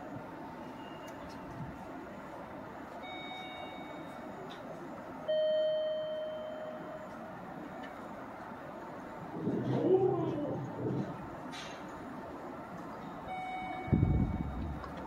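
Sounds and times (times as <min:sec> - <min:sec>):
station platform hum: 0:00.0 - 0:15.0.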